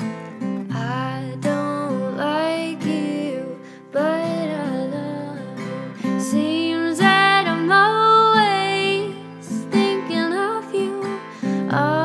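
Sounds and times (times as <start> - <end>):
person singing: 0.7 - 12.0.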